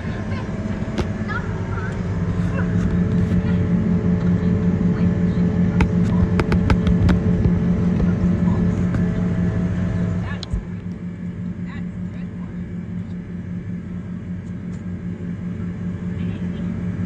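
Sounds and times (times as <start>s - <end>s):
tractor engine drone: 0.0s - 17.0s.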